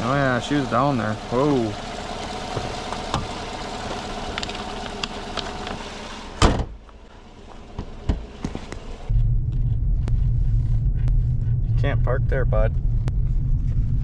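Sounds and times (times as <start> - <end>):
road and engine noise: 0.0 - 14.0.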